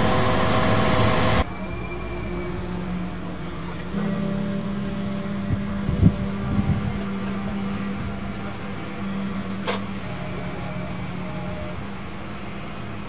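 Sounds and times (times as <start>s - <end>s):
crane diesel engine running: 0.0s - 13.0s.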